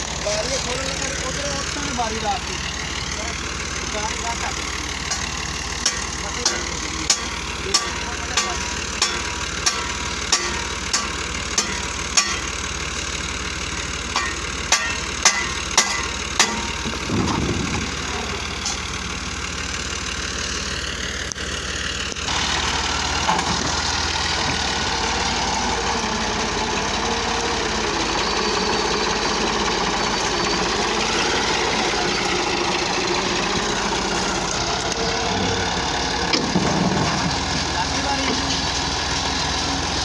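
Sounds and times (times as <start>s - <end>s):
diesel tractor engine running: 0.0s - 40.0s.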